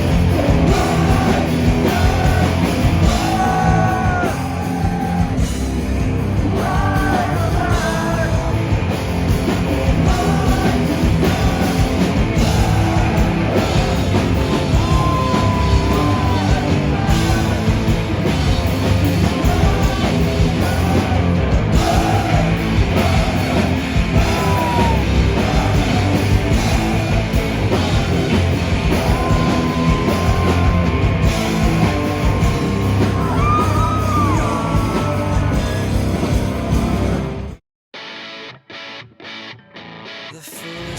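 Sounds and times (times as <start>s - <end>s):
person singing and yelling: 0.0s - 5.5s, 6.4s - 8.7s, 9.7s - 18.3s, 19.1s - 37.1s, 40.3s - 40.9s
live rock band playing: 0.0s - 40.9s.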